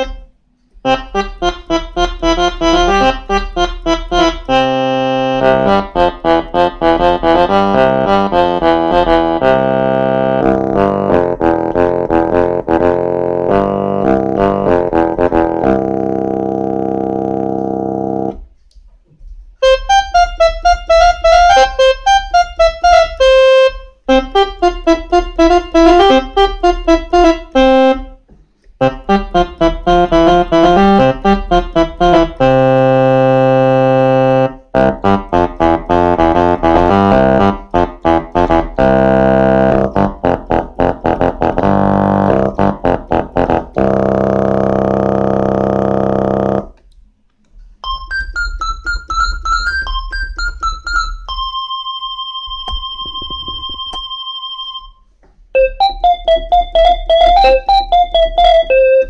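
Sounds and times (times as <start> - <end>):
electronic keyboard chords and melody: 0.0 - 18.5, 19.6 - 46.8, 47.8 - 59.0.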